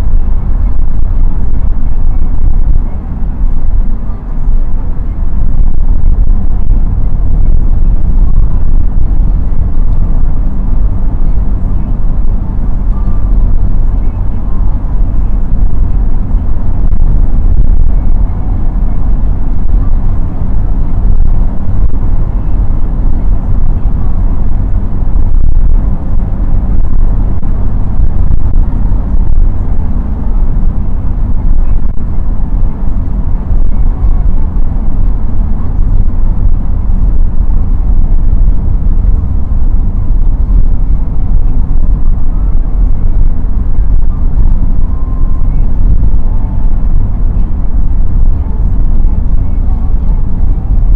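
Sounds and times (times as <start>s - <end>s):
car engine drone: 0.0s - 50.9s
tyre and road rumble: 0.0s - 50.9s.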